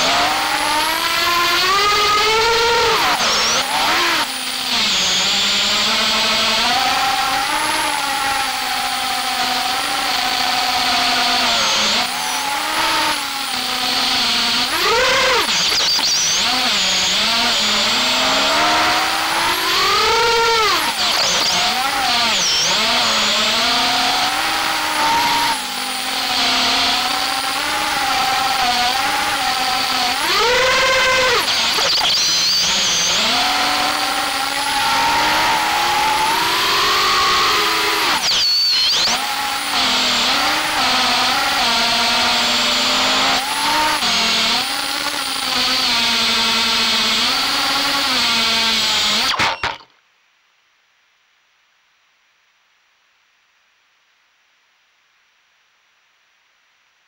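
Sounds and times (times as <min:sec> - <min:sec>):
drone motors buzzing whine: 0:00.0 - 0:49.9.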